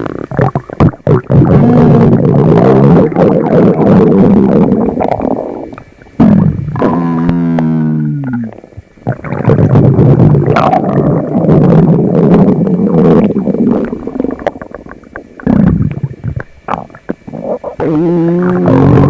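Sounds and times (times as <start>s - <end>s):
stomach rumbling: 0.0s - 19.0s.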